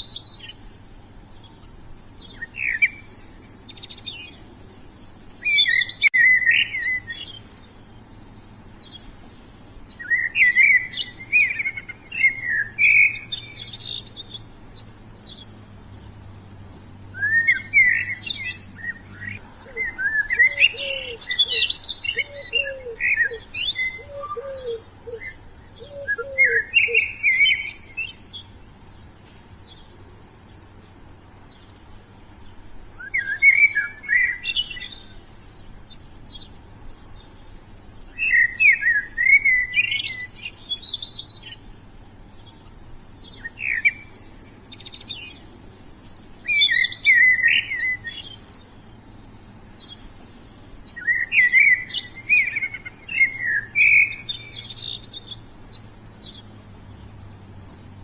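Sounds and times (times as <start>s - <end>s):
low repeated bird call: 0.0s - 58.0s
songbirds chirping and trilling: 0.0s - 58.0s.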